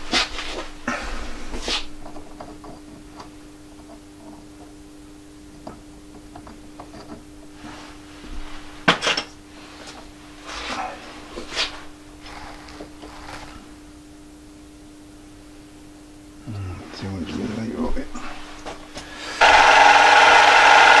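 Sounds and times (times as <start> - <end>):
low electrical hum: 0.0 - 19.4.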